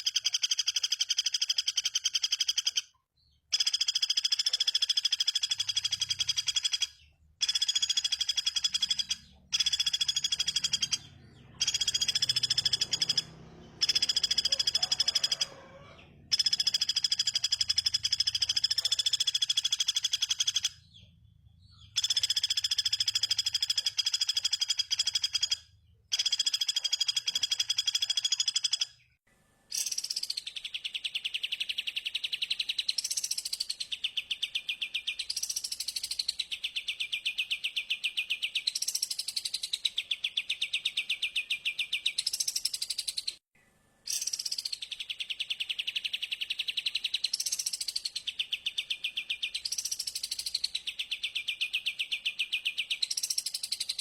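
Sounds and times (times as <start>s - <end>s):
bird song buzzy trill: 0.0s - 43.4s, 44.1s - 54.0s.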